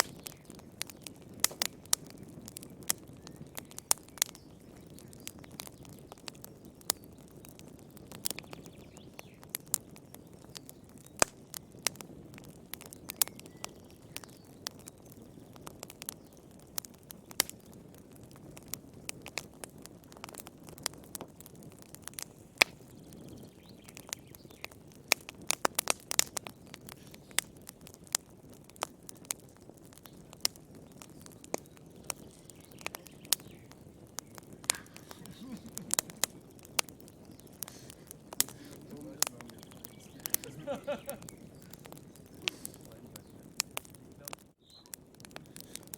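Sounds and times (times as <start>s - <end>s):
low rumble of burning: 0.0s - 45.9s
wood fire crackling and popping: 0.0s - 45.9s.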